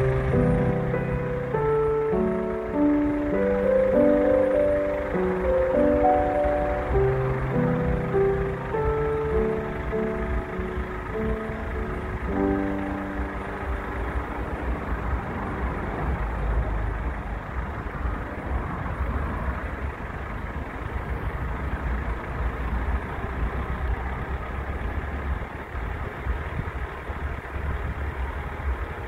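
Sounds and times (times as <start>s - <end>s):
road noise: 0.0s - 29.0s
van engine rumbling: 0.0s - 29.0s.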